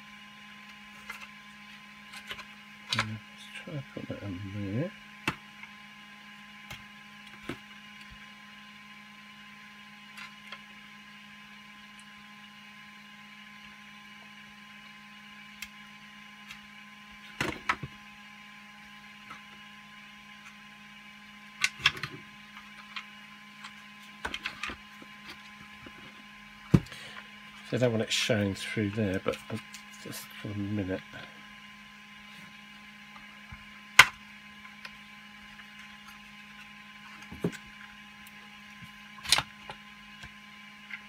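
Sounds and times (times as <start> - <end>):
three-d printer humming: 0.0 - 41.0.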